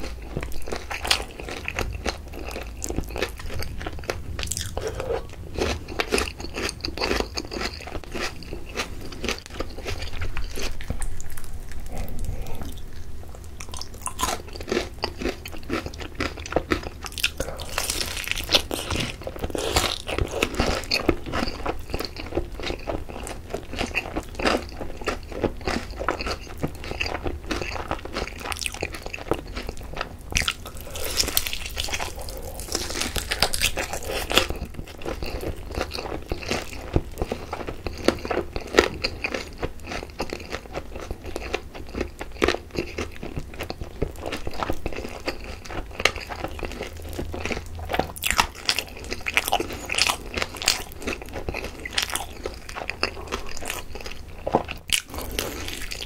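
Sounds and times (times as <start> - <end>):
crunching and chewing fried chicken: 0.0 - 56.0.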